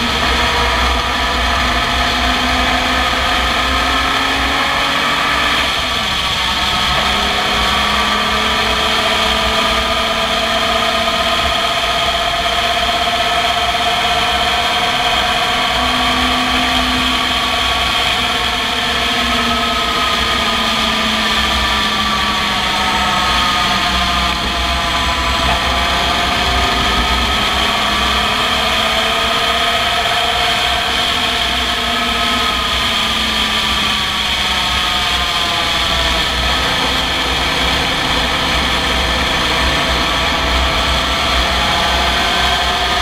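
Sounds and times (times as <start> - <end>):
race car engine running hard: 0.0 - 43.0
wind and road rush: 0.0 - 43.0.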